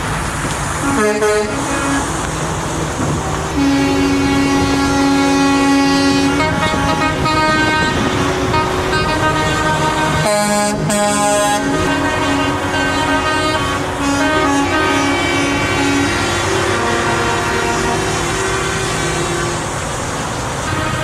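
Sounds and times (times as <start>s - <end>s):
truck engines: 0.0s - 21.0s
truck air horns blasting: 0.8s - 21.0s.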